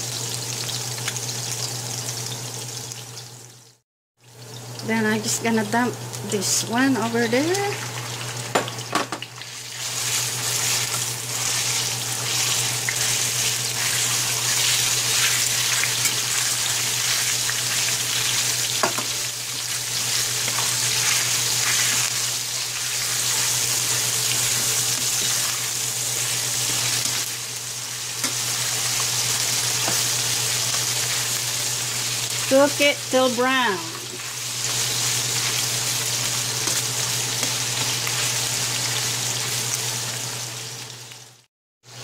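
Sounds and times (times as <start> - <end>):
meat sizzling in oil: 0.0 - 42.0.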